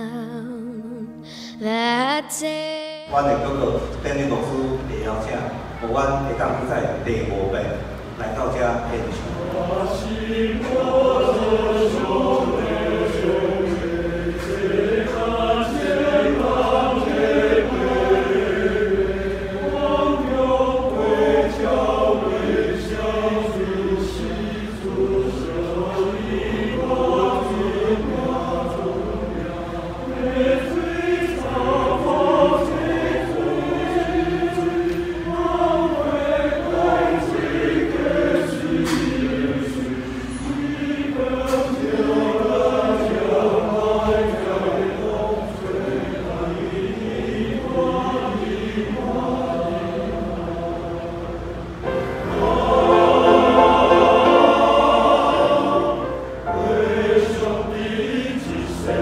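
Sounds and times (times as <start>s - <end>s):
men's choir singing: 8.0s - 59.0s.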